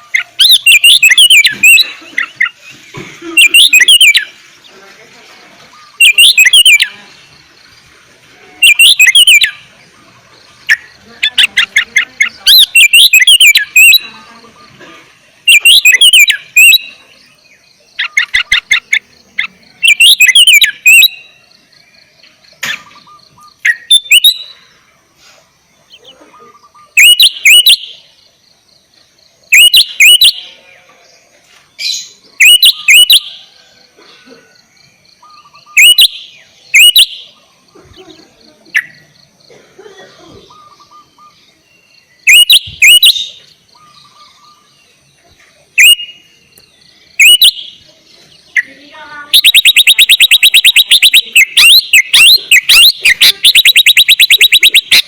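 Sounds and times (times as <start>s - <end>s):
bird singing whistled notes: 0.0s - 4.8s, 5.6s - 7.7s, 8.6s - 14.8s, 15.4s - 24.9s, 25.8s - 30.8s, 31.8s - 33.6s, 34.8s - 37.7s, 40.4s - 45.2s, 45.8s - 55.0s.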